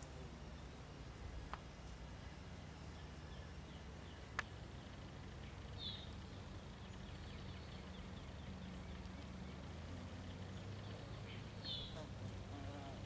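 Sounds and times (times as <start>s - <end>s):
faint twittering: 0.0s - 13.0s
small bird chirping: 0.0s - 13.0s.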